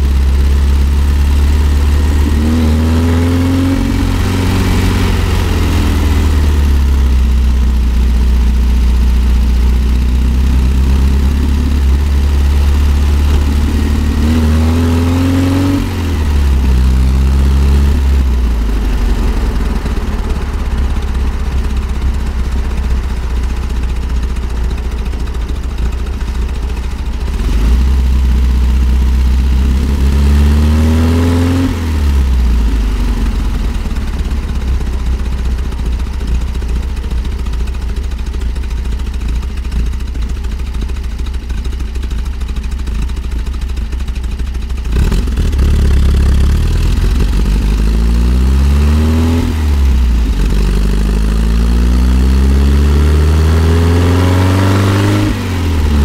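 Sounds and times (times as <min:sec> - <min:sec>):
engine revving uphill: 0:00.0 - 0:37.9, 0:44.8 - 0:56.0.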